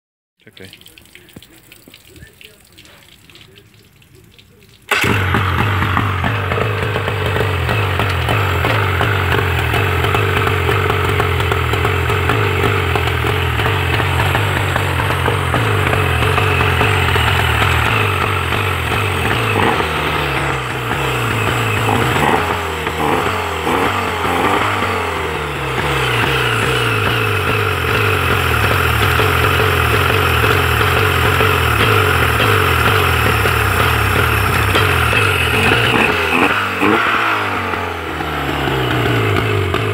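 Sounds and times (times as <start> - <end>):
outboard engine idling: 4.2 - 39.9.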